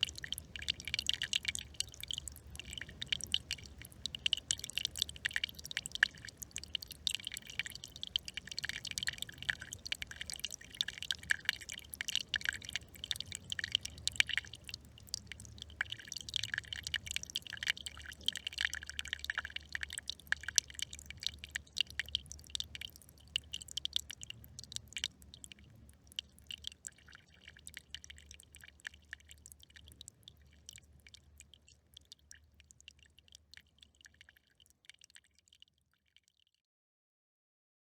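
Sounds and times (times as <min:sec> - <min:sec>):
brook trickling and babbling: 0:00.0 - 0:35.7.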